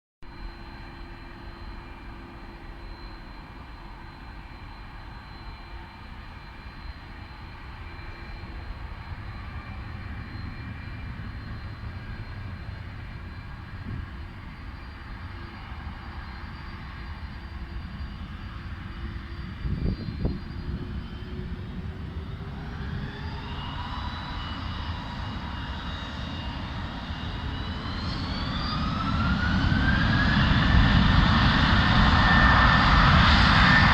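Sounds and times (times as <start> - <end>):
jet engines whining: 1.7 - 33.9.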